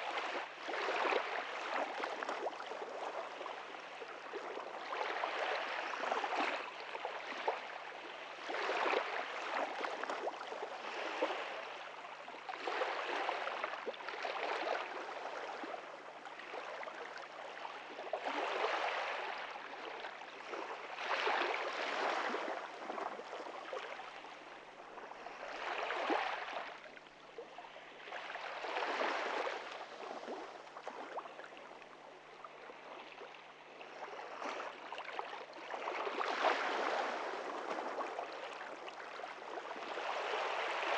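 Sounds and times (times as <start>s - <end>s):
small waves washing onto beach: 0.0s - 40.9s.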